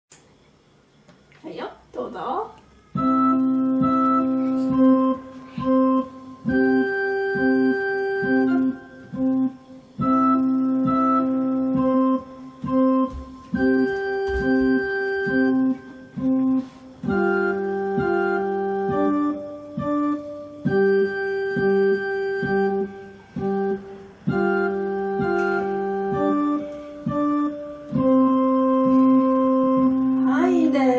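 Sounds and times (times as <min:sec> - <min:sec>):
digital organ playing simple piece: 0:02.8 - 0:30.9.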